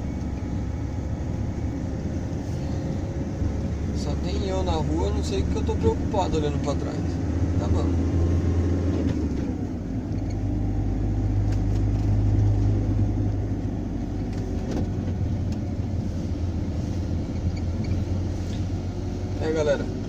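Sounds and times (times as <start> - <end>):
van engine and road noise: 0.0 - 20.0.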